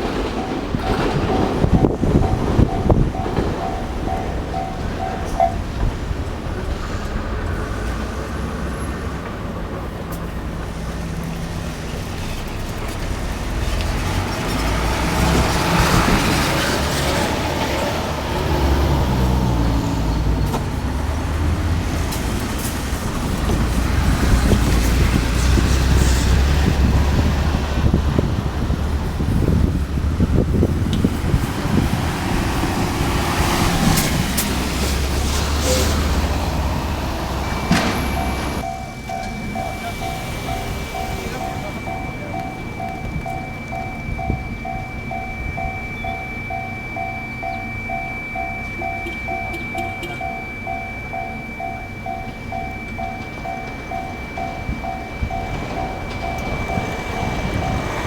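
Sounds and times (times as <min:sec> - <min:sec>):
level crossing warning bell: 0:00.0 - 0:58.0
road traffic passing: 0:00.0 - 0:58.0.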